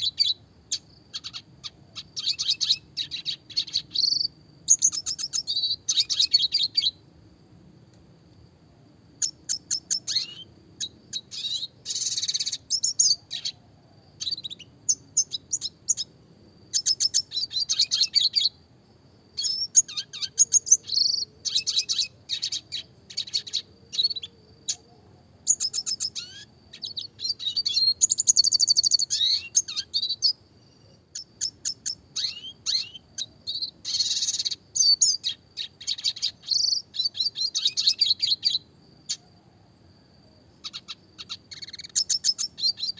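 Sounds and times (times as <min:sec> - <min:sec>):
bird twittering song: 0:00.0 - 0:07.0, 0:09.2 - 0:18.6, 0:19.3 - 0:39.3, 0:40.5 - 0:42.9.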